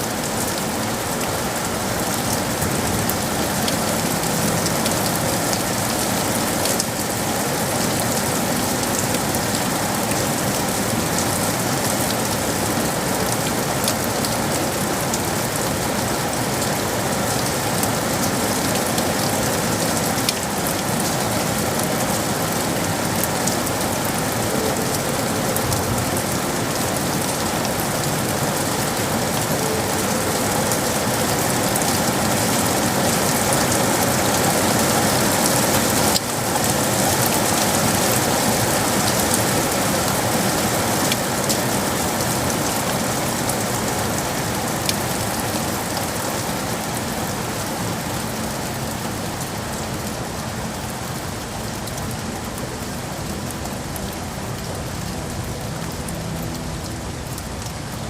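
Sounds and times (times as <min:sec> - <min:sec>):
rain pattering on hard surfaces: 0:00.0 - 0:58.0.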